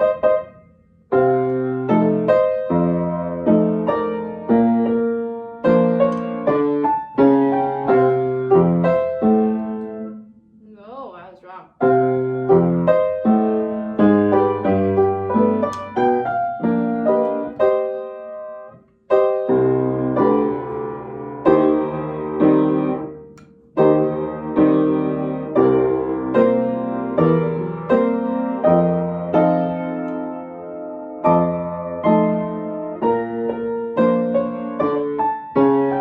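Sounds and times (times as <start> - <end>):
piano notes and chords: 0.0 - 11.0, 11.8 - 36.0.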